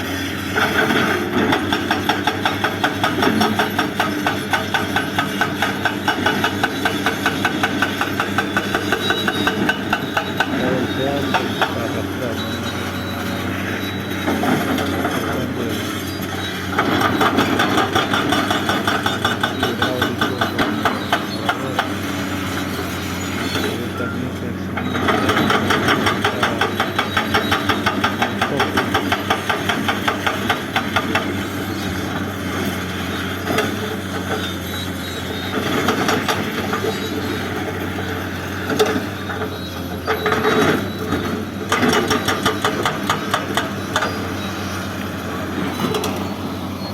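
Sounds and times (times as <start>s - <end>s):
diesel engine running: 0.0s - 46.9s
hydraulic breaker hammer pounding: 0.3s - 46.9s.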